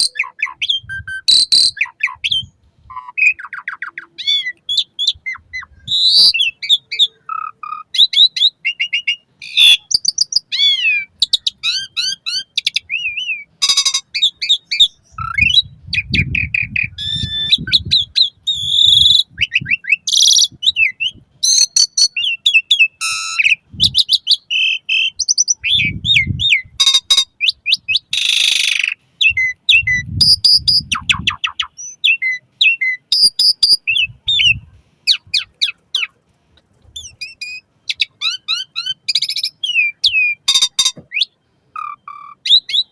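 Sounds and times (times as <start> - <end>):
harsh bird screeching: 0.0 - 15.7, 16.4 - 36.2, 37.0 - 42.9
bird singing varied song: 0.0 - 36.2, 36.9 - 42.9.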